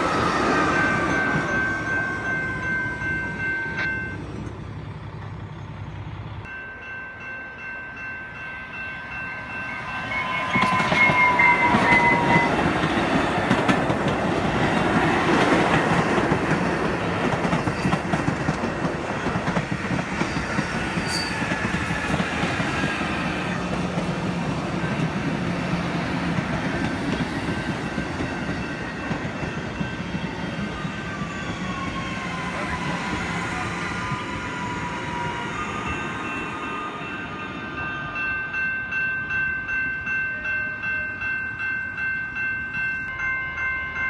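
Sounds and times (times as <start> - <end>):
train wheels rumbling on rails: 0.0 - 43.1.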